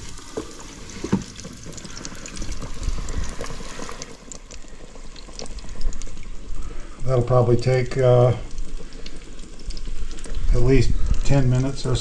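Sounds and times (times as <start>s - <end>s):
steak frying in hot oil: 0.0s - 12.0s.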